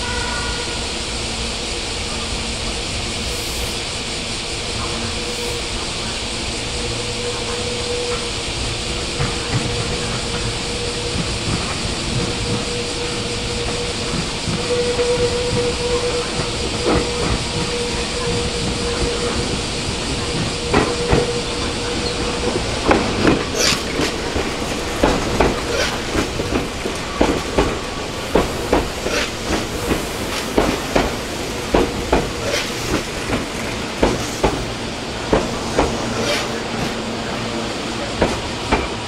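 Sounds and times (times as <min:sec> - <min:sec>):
train running noise: 0:00.0 - 0:39.0
train wheels clacking over rail joints: 0:04.1 - 0:39.0.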